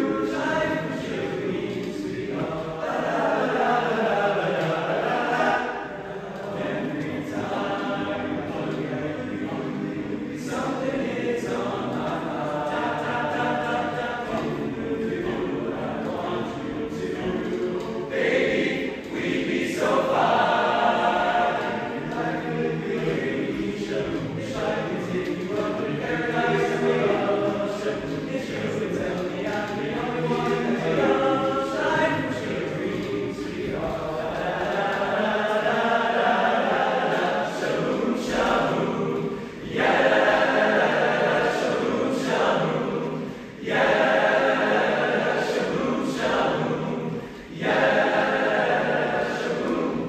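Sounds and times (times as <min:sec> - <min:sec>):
male choir singing a cappella: 0:00.0 - 0:50.0.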